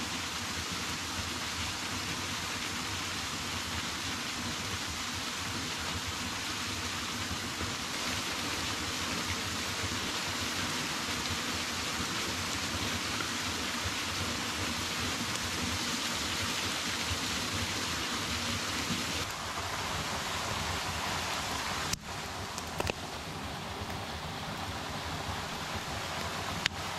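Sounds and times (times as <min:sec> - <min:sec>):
small waterfall rushing: 0:00.0 - 0:26.9.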